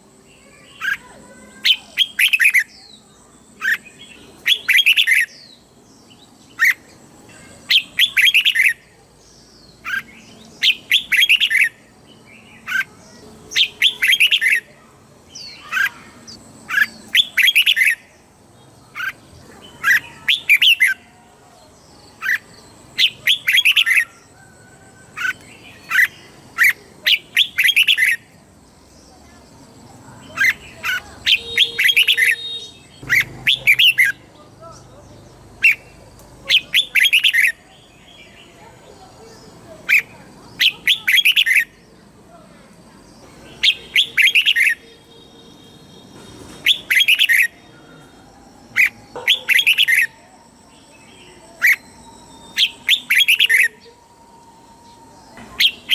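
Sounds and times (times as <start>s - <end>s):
bird singing bright chirps: 0.0s - 55.9s.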